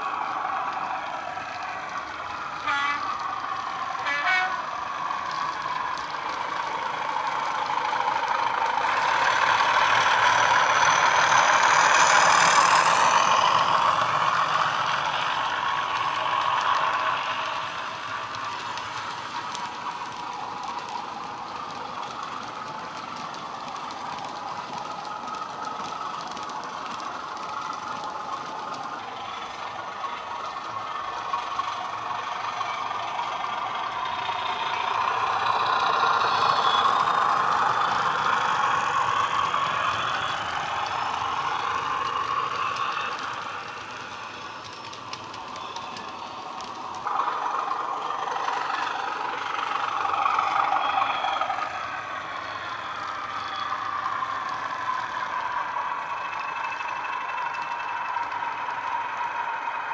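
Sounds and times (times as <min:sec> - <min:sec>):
diesel engine through small speaker: 0:00.0 - 0:59.9
model wheels rattling on track: 0:00.0 - 0:59.9.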